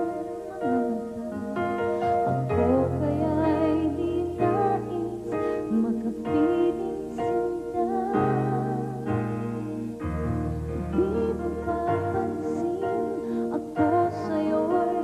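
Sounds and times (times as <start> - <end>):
woman singing with vibrato: 0.0 - 1.8, 2.5 - 9.4, 10.8 - 15.0
piano and keyboard chords: 0.0 - 15.0.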